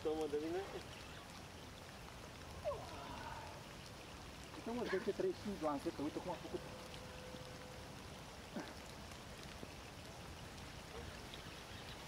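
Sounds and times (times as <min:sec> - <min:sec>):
light rain hiss: 0:00.0 - 0:12.0.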